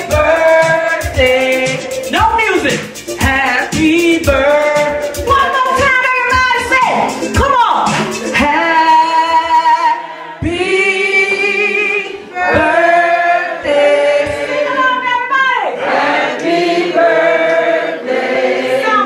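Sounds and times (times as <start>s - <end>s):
woman singing through pa speaker: 0.0s - 19.0s.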